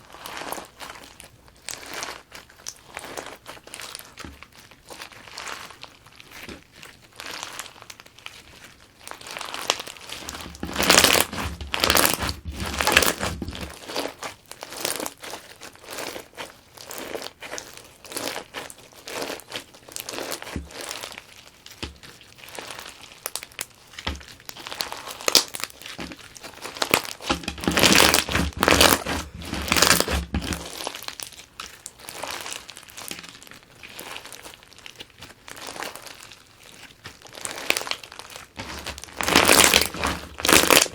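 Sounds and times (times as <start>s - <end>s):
crunchy slime squeezed by hand: 0.0s - 40.9s.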